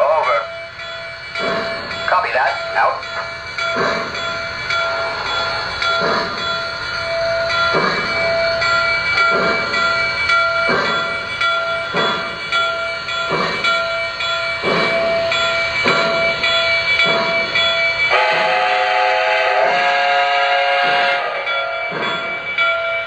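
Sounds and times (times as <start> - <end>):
chime whistle: 0.0 - 19.0
steady whine: 0.0 - 19.0
model train steam chuffs: 0.0 - 22.7.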